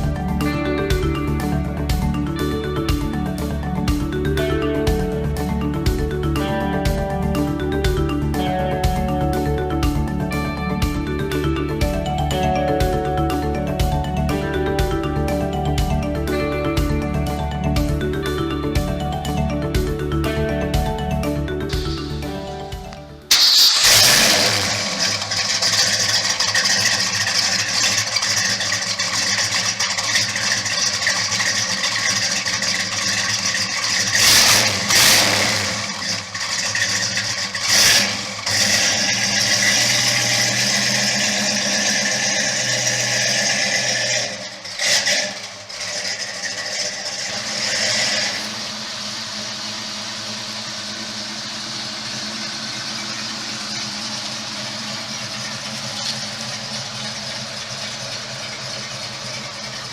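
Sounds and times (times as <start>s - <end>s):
car engine running and revving: 0.0s - 59.9s.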